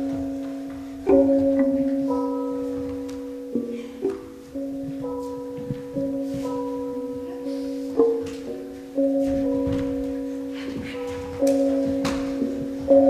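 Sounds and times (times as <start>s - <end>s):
slow ringing struck notes: 0.0s - 13.0s.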